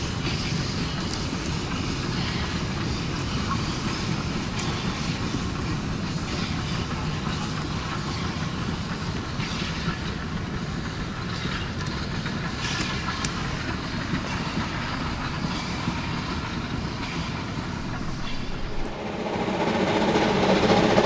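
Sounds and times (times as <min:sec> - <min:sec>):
hissing steam: 0:00.0 - 0:21.0
steam train rumbling past: 0:00.0 - 0:21.0.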